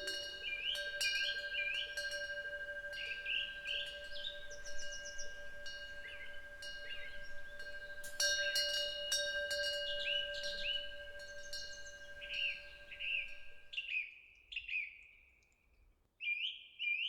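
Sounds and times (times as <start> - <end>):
wind bell ringing: 0.0 - 13.8
small birds chirping: 0.0 - 13.9.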